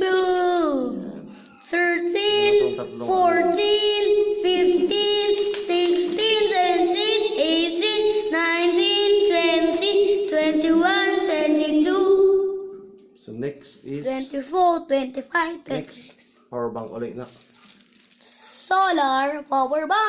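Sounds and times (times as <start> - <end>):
child singing: 0.0 - 12.9, 13.9 - 16.2, 18.4 - 20.0.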